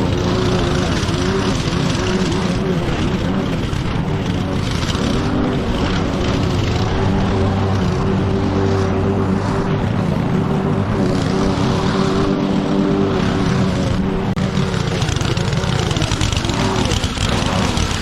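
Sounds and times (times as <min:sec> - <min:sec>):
mower engine cutting grass: 0:00.0 - 0:18.0.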